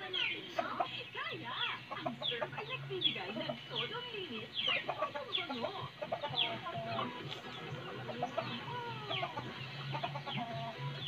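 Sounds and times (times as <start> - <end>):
fowl clucking: 0.0 - 11.0.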